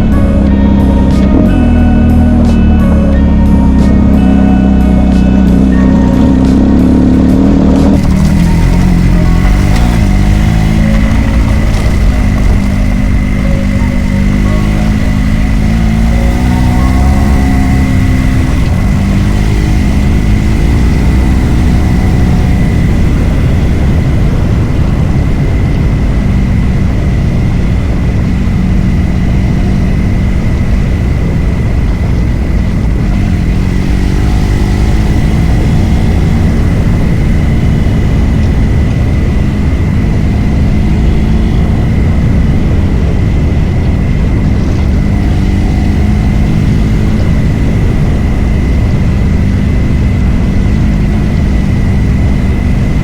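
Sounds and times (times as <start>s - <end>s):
motorcycle engine droning: 0.0s - 53.0s
thin high whine: 0.0s - 53.0s
wind rush: 7.9s - 53.0s.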